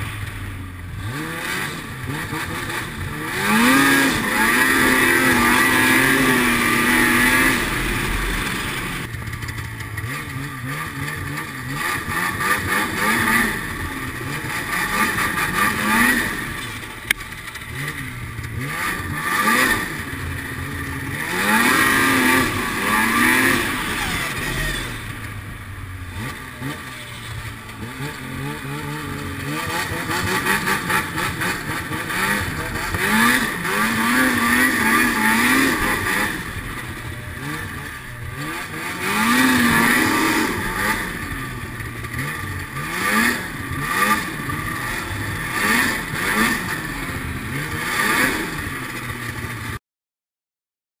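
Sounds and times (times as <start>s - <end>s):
snowmobile engine revving: 0.0s - 49.8s.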